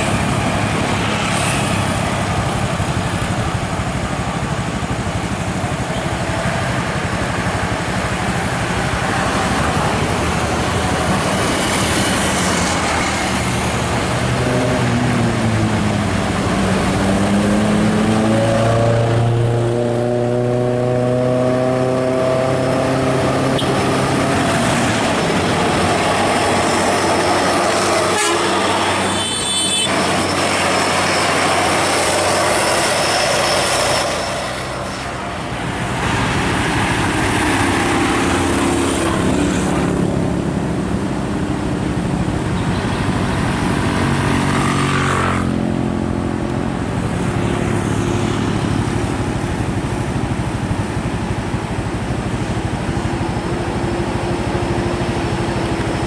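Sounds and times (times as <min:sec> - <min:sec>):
truck diesel engine under load: 0:00.0 - 0:29.1, 0:29.8 - 0:56.0
passing road traffic: 0:00.0 - 0:56.0.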